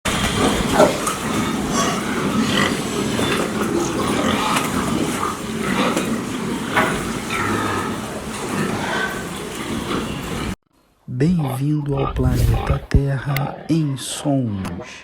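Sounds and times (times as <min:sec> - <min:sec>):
pigs grunting: 0:00.1 - 0:10.6, 0:11.4 - 0:14.2.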